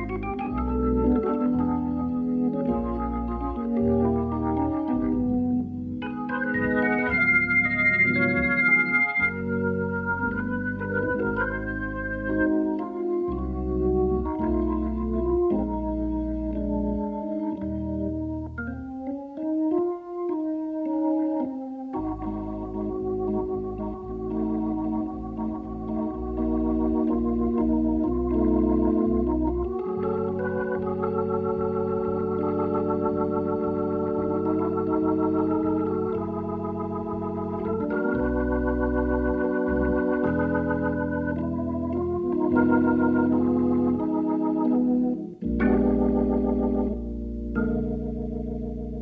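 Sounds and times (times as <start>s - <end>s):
low bass notes: 0.0s - 20.3s, 21.9s - 49.0s
jazz organ chords: 0.0s - 49.0s.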